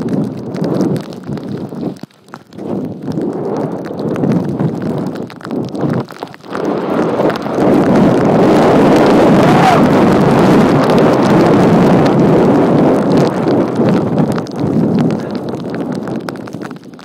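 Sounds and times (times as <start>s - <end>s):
skis sliding over snow: 0.0s - 17.0s
wind rushing on microphone: 0.0s - 17.0s.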